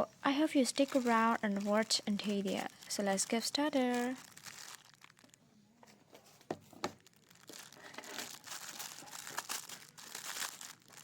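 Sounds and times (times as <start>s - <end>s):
plastic packaging crinkling: 0.3s - 11.0s.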